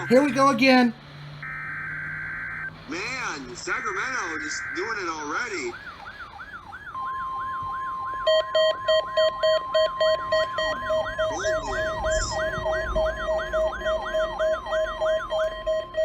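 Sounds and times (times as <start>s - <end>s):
rapid alert beeping: 0.0s - 5.8s, 7.0s - 16.0s
steady warning alarm tone: 0.0s - 16.0s
warbling siren: 0.0s - 16.0s.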